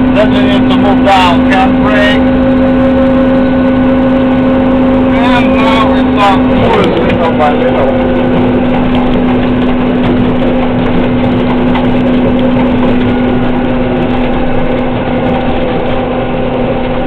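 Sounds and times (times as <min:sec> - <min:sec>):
diesel engine at full throttle: 0:00.0 - 0:17.0.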